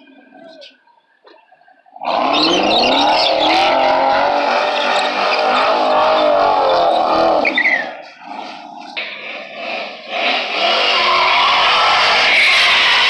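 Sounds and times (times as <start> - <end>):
tyres squealing on asphalt: 1.9 - 13.0
car engine revving hard: 2.0 - 13.0.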